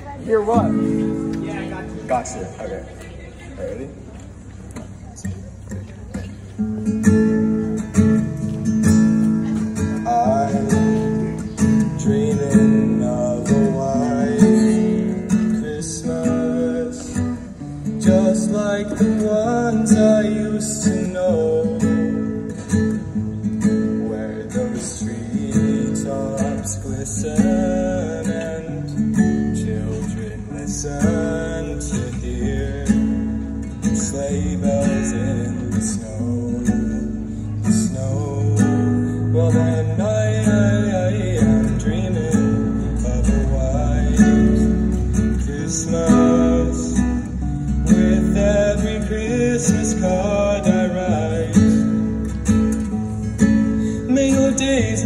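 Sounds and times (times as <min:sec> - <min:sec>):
acoustic guitar strummed: 0:00.0 - 0:02.5, 0:05.2 - 0:55.0.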